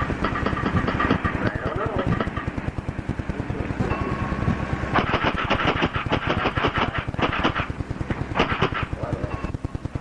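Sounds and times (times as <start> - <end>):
steady low ticking: 0.0 - 10.0.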